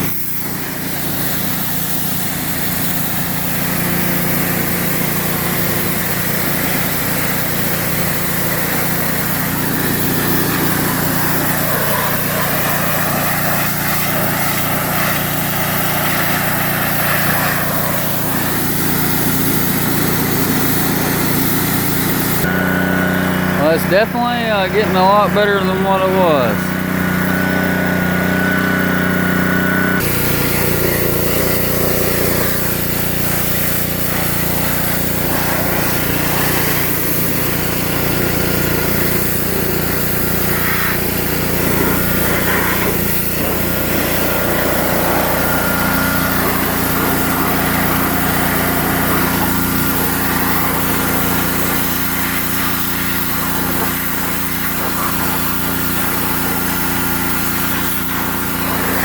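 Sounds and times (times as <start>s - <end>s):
high-pressure spray hissing: 0.0s - 23.8s, 26.0s - 59.0s
small engine running: 0.0s - 59.0s.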